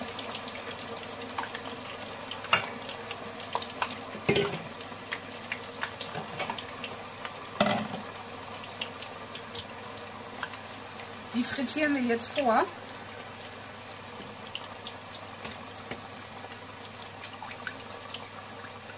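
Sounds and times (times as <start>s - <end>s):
potatoes sizzling in hot oil: 0.0s - 18.9s.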